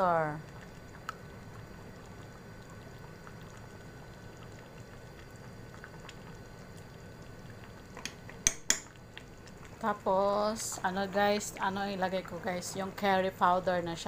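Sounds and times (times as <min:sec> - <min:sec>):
curry bubbling in a pan: 0:00.0 - 0:14.0.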